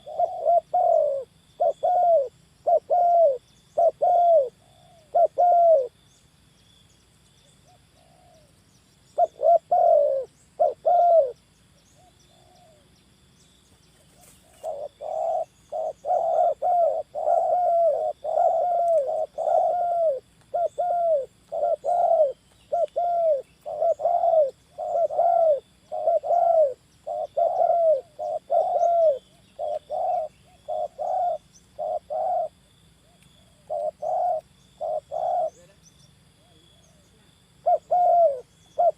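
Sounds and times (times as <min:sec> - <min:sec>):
doves cooing: 0:00.0 - 0:06.0, 0:07.6 - 0:08.6, 0:09.2 - 0:11.4, 0:14.0 - 0:38.9.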